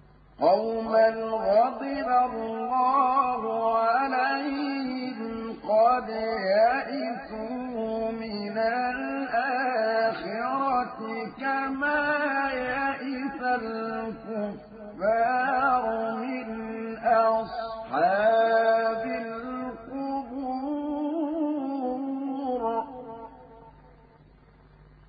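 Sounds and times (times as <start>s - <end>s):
man chanting melodically: 0.4s - 23.8s.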